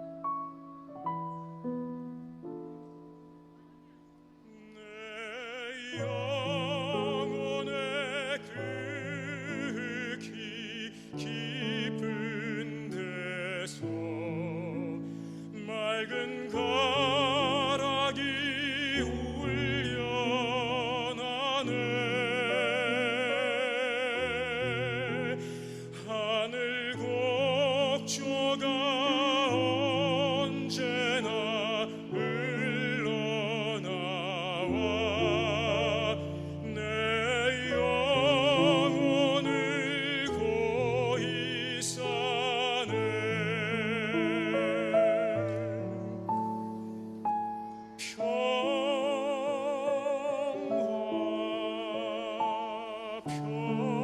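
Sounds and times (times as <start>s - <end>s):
piano chords: 0.0s - 54.0s
operatic tenor singing a hymn: 4.4s - 54.0s.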